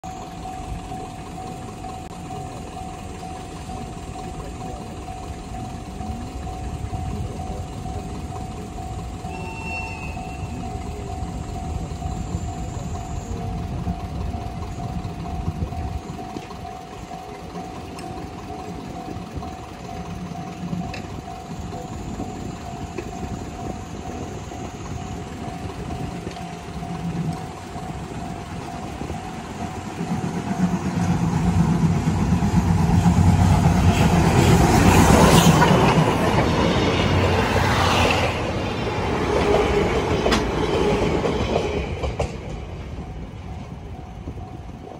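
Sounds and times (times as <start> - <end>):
level crossing warning bell ringing: 0.0 - 44.9
train rumbling: 0.0 - 44.9.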